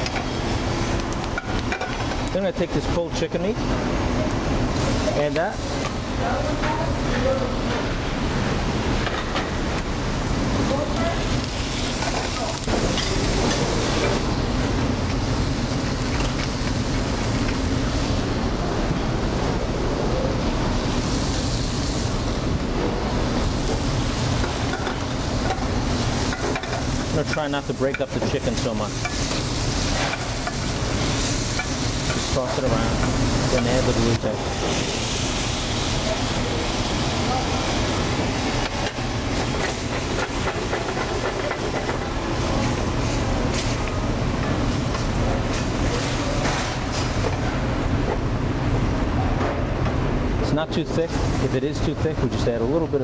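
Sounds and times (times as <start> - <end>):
gas burners: 0.0 - 53.0
kitchen ventilation rushing: 0.0 - 53.0.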